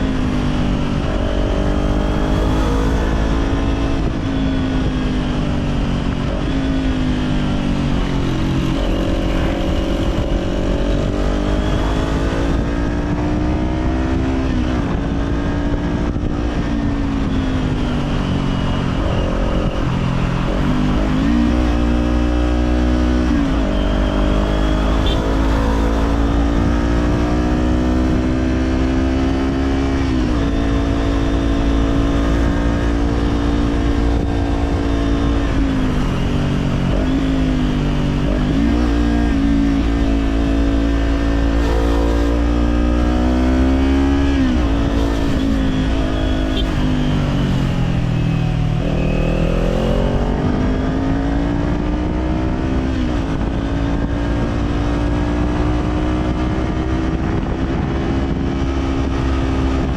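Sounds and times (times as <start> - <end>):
low wind rumble: 0.0 - 59.9
motorcycle engine riding: 0.0 - 59.9.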